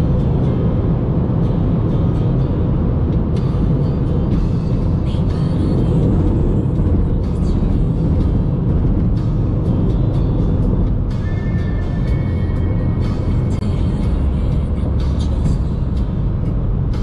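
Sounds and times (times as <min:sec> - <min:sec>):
low engine drone: 0:00.0 - 0:17.0
road and wind noise: 0:00.0 - 0:17.0.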